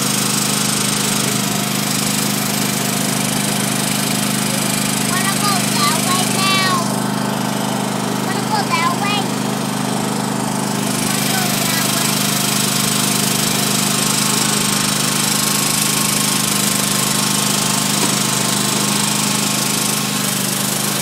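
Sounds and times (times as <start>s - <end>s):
vehicle engine running steadily: 0.0s - 21.0s.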